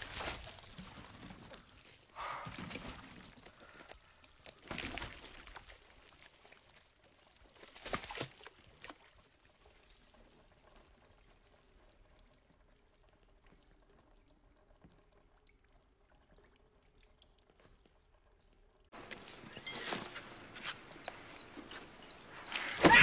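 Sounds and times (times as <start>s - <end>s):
dripping and trickling: 0.0s - 21.0s.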